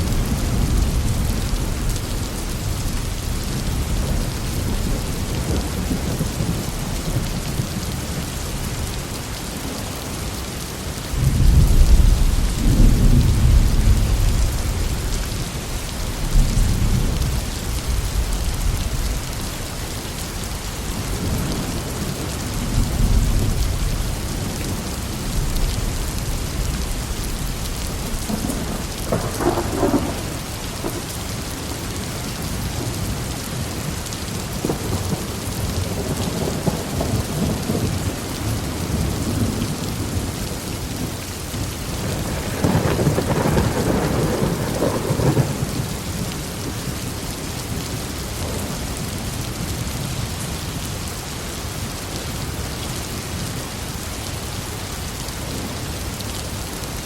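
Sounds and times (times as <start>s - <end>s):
low rolling thunder: 0.0s - 8.7s, 11.1s - 31.2s, 31.9s - 50.4s
heavy rain falling: 0.0s - 57.0s.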